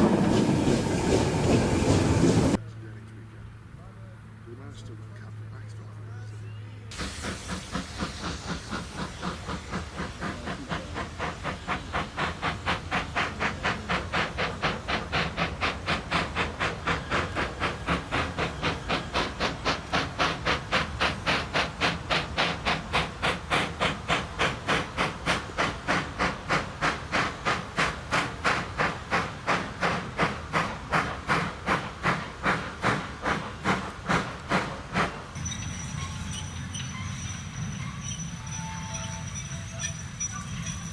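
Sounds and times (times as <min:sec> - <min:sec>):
steam hissing: 0:00.0 - 0:02.6, 0:06.9 - 0:40.9
steam locomotive chuffing: 0:00.0 - 0:02.6, 0:06.9 - 0:40.9.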